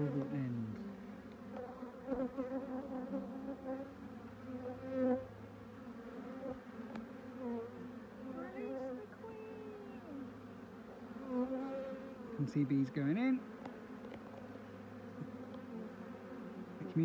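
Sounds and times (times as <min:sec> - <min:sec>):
honey bees humming: 0:00.0 - 0:17.0.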